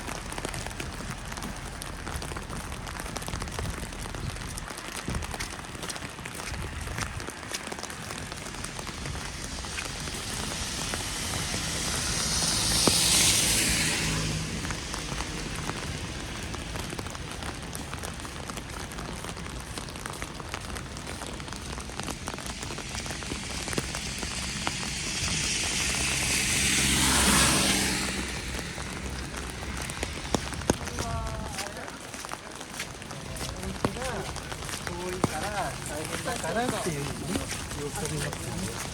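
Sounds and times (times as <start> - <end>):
tyre hiss on wet road: 0.0 - 38.9
wet snow falling patter: 0.0 - 38.9.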